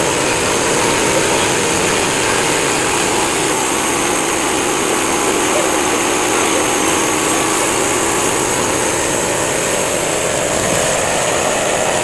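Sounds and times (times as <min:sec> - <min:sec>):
band sawmill running: 0:00.0 - 0:12.0.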